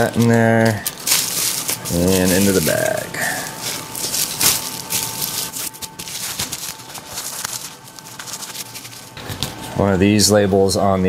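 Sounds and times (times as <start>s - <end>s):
plastic bags crinkling: 0.0s - 9.8s.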